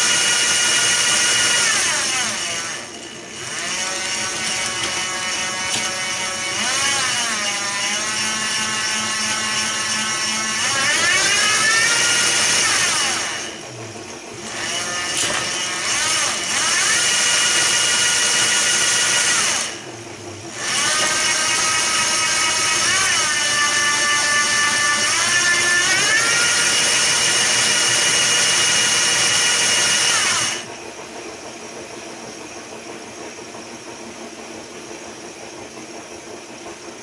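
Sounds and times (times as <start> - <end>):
electric motor whining: 0.0 - 30.7.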